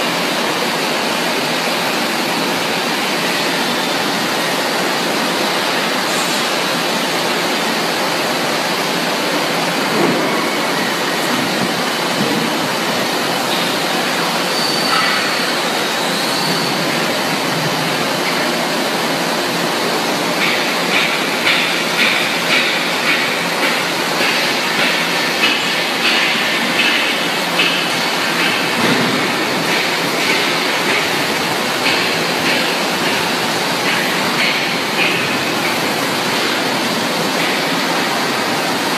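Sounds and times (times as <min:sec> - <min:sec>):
industrial dryer rushing noise: 0:00.0 - 0:38.9.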